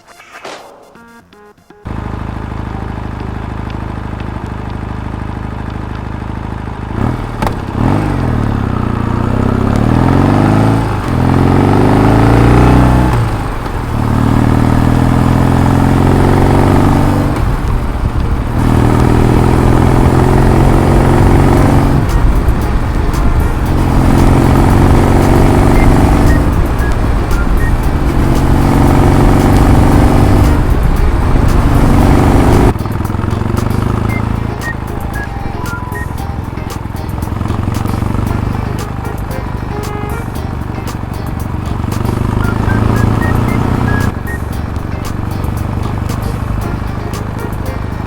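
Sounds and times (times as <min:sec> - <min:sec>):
vehicle engine accelerating: 0:01.8 - 0:48.0.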